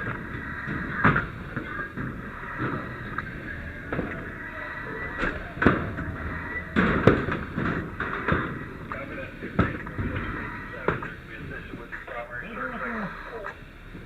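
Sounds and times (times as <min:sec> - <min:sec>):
knocks and bangs: 0:00.0 - 0:11.9
rumbling background: 0:00.0 - 0:14.0.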